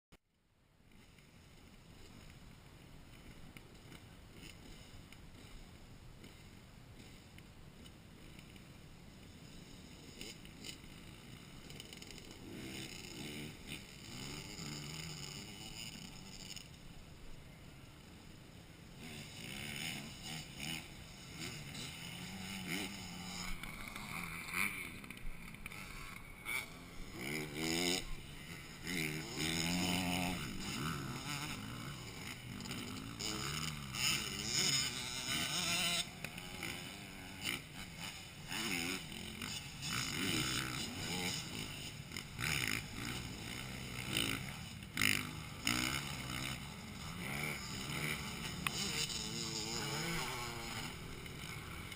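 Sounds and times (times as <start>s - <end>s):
motorcycle engines revving: 0.9s - 51.9s.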